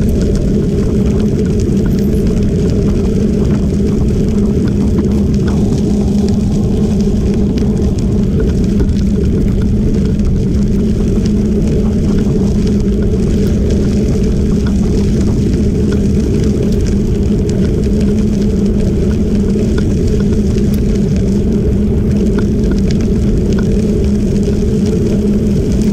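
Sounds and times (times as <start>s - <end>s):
gravel crackling: 0.0s - 25.9s
wind rumble on microphone: 0.0s - 25.9s.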